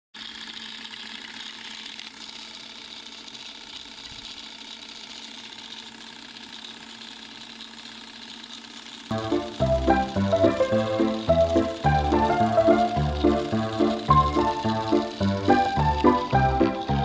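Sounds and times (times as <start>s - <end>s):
film projector whirring: 0.2s - 17.0s.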